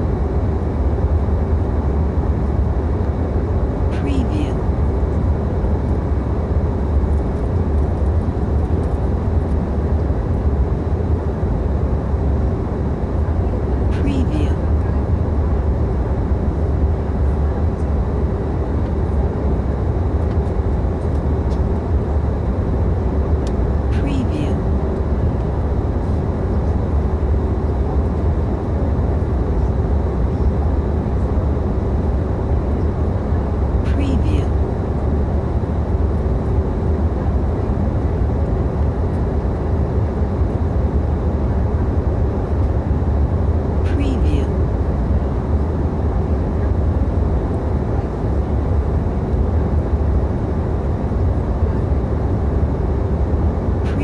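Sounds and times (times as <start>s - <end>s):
airliner cabin low rumble: 0.0s - 54.0s
faint constant hum: 0.0s - 54.0s.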